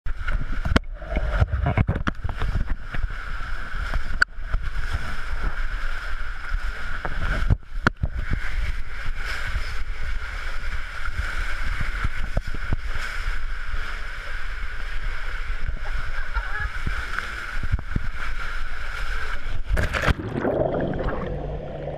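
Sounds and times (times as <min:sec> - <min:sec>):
water rumbling in slide tube: 0:00.1 - 0:21.9.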